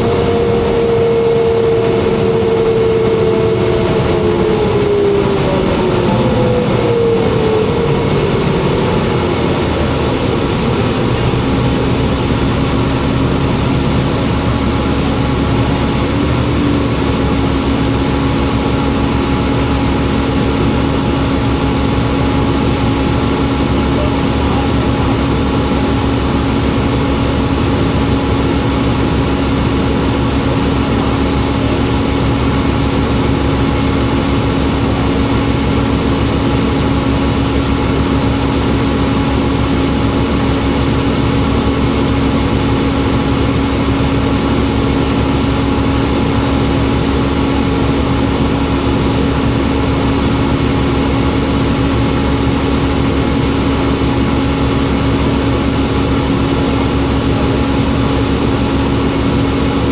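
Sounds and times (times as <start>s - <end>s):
bus diesel engine idling: 0.0s - 59.9s.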